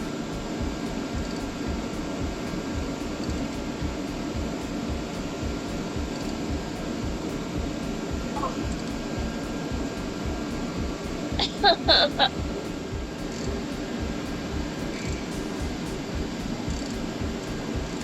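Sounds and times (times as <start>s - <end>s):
steady low hum and rushing noise: 0.0s - 18.0s
uneven rumble: 0.0s - 18.0s.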